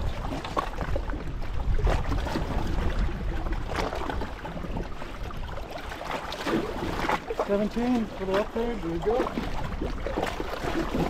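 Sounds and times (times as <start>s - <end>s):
water lapping against kayak hull: 0.0s - 11.0s
wind rumbling on microphone: 0.0s - 11.0s.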